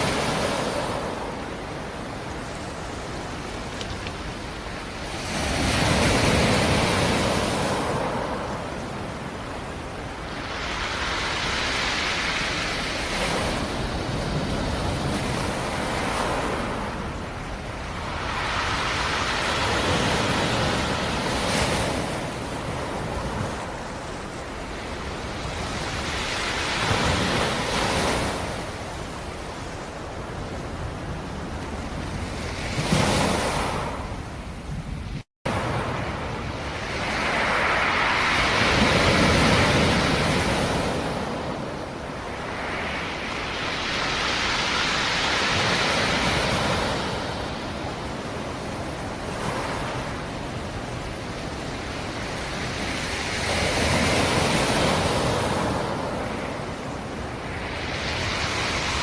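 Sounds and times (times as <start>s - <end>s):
sea waves breaking: 0.0s - 34.9s, 35.5s - 59.0s.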